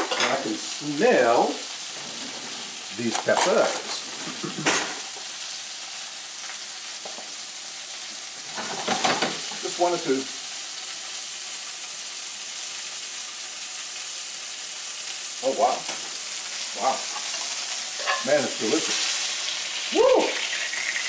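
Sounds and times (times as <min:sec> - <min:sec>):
chicken sizzling in a skillet: 0:00.0 - 0:21.0.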